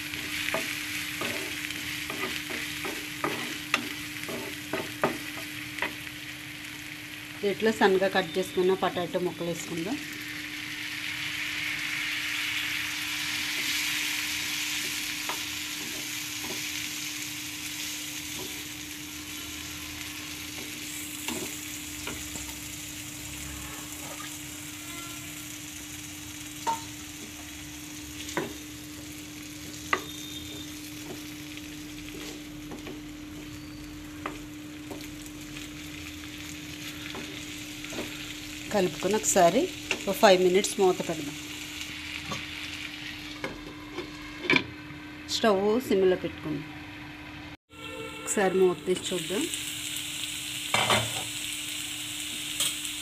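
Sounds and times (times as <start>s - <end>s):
potatoes sizzling in oil: 0.0s - 44.5s, 48.3s - 53.0s.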